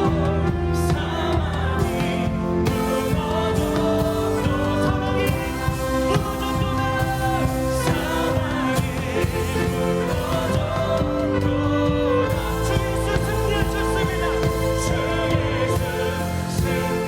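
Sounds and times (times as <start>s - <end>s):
person singing: 0.0s - 17.0s
worship band music: 0.0s - 17.0s.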